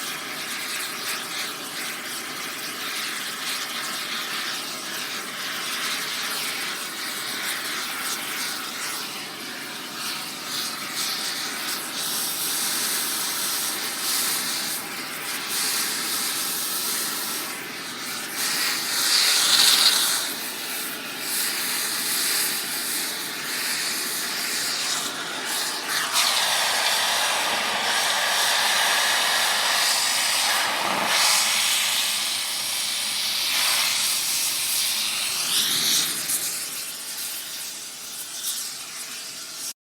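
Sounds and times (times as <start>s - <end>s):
air torch hissing on metal: 0.0s - 39.8s.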